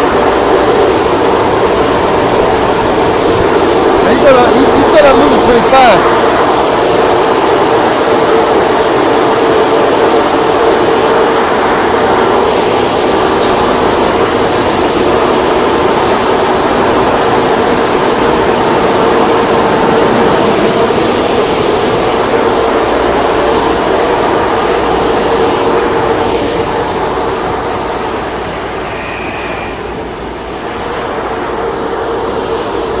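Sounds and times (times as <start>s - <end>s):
car wash rushing noise: 0.0s - 33.0s
constant machine hum: 0.0s - 33.0s.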